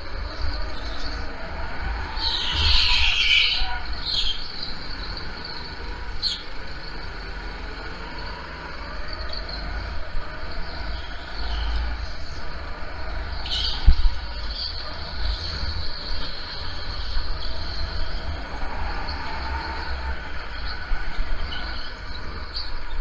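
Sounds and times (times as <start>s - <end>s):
go-kart engine running: 0.0s - 23.0s
tyres screeching: 0.0s - 23.0s.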